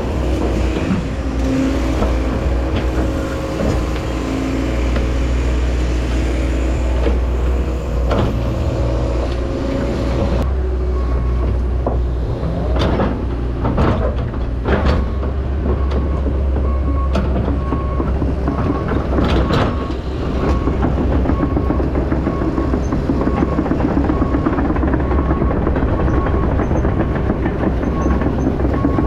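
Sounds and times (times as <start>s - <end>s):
heavy machine engine running: 0.0s - 29.0s.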